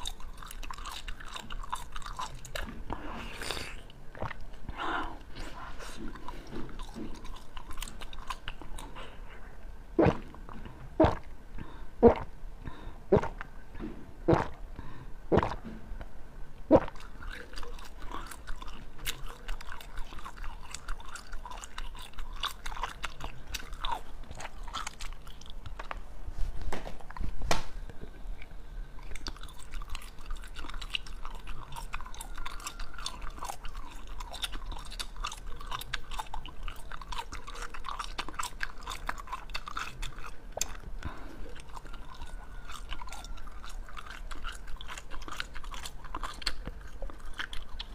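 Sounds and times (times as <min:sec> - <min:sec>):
chewing and crunching: 0:00.0 - 0:14.6, 0:15.3 - 0:15.8, 0:16.7 - 0:47.9.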